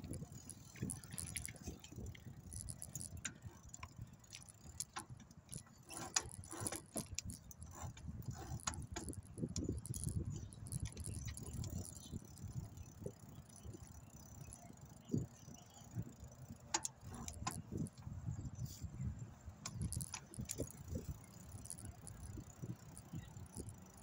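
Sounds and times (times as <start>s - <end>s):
bicycle parts rattling: 0.0s - 24.0s
wind: 0.0s - 24.0s.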